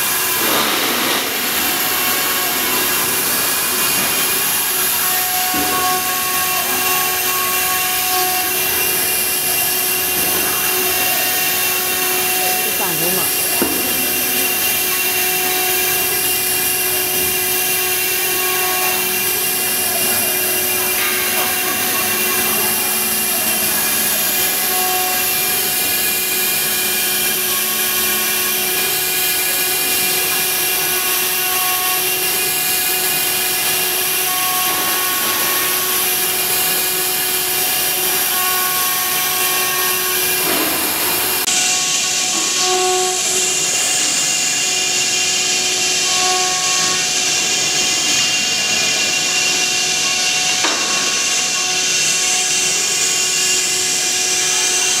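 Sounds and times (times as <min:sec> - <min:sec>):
noisy machining: 0:00.0 - 0:55.0
router spindle whining: 0:00.0 - 0:55.0.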